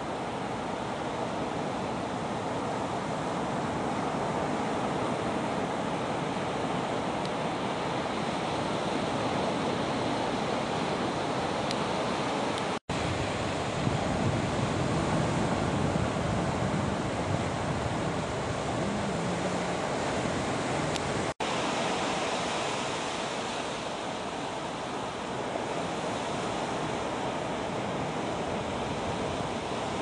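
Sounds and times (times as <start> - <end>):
ocean surf breaking: 0.0 - 30.0
wind on microphone: 0.9 - 30.0.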